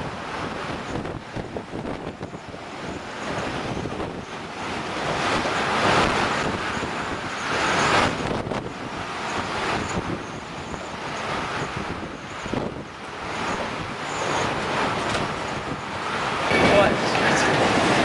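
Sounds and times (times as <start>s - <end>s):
wind gusting against microphone: 0.0s - 18.0s.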